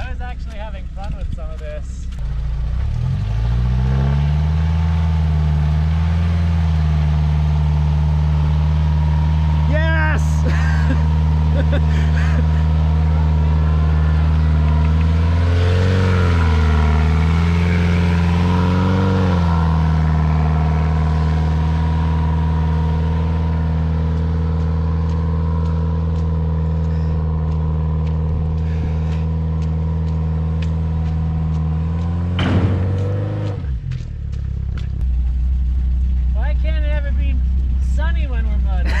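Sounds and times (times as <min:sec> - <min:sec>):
truck engine revving in mud: 0:02.3 - 0:34.1.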